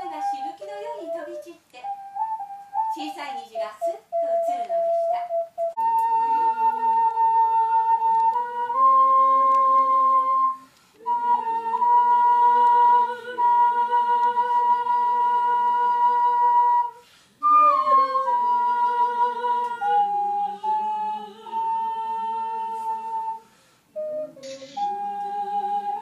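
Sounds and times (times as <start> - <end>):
ocarina playing slow melody: 0.0 - 2.9, 4.1 - 23.4, 24.0 - 26.0.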